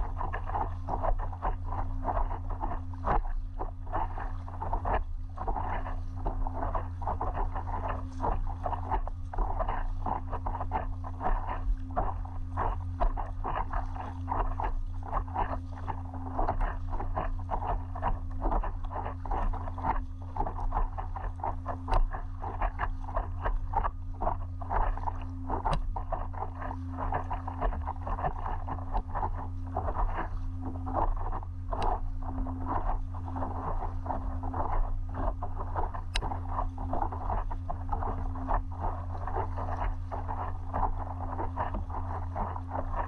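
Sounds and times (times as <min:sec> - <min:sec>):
low hum: 0:00.0 - 0:43.0
water splashing against paddleboard: 0:00.0 - 0:43.0.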